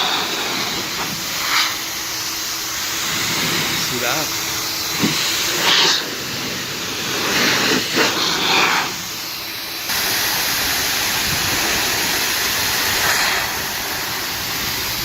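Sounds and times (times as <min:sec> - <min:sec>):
air blower rushing hiss: 0:00.0 - 0:15.0.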